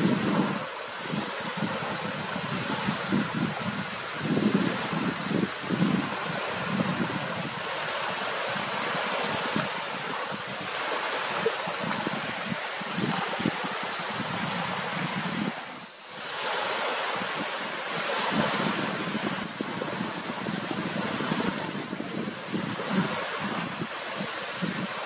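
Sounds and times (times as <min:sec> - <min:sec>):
small waves lapping: 0:00.0 - 0:25.0
wind buffeting microphone: 0:00.0 - 0:25.0.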